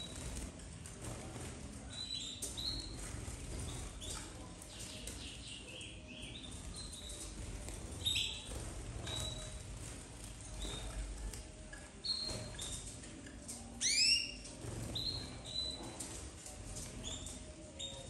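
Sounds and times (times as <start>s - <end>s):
canaries chirping: 0.0s - 18.0s.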